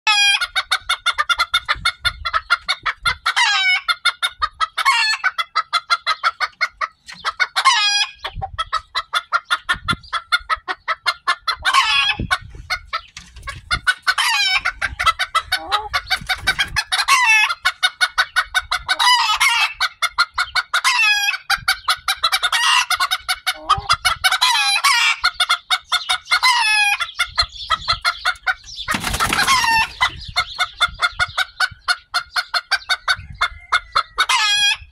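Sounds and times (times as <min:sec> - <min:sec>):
chickens clucking: 0:00.1 - 0:34.9.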